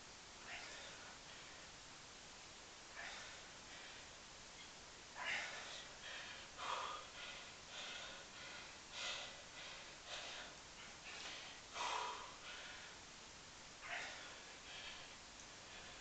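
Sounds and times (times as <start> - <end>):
man breathing hard: 0.4 - 1.8, 2.8 - 13.2, 13.8 - 16.0.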